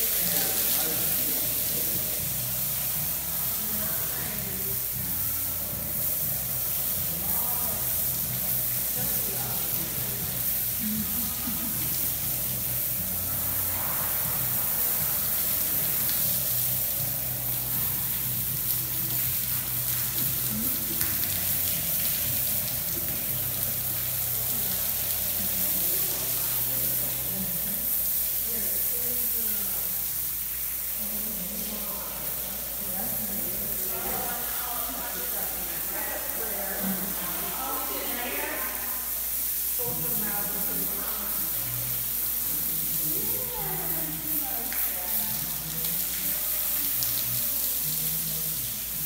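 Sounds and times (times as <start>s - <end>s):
hose spray hissing: 0.0s - 49.0s.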